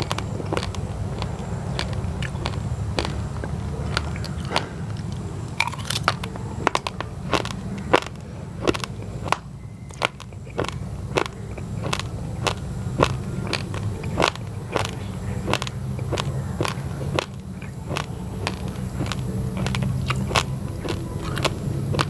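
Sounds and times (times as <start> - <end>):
raw rice crunched by chewing: 0.0 - 22.0.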